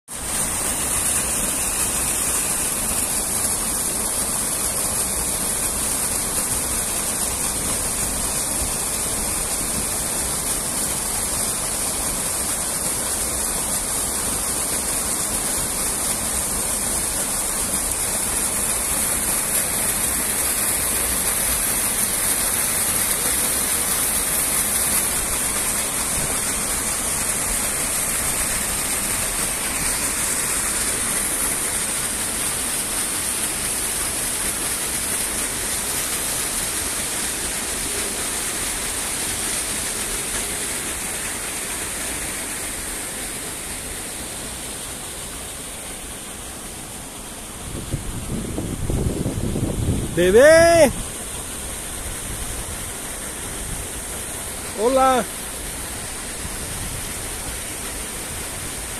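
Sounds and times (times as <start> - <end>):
water rushing over a weir: 0.0 - 58.9.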